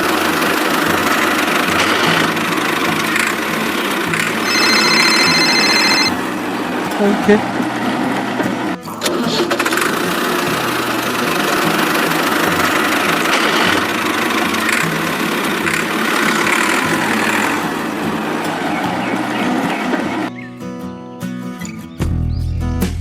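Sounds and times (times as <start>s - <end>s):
small tractor motor running: 0.0s - 20.3s.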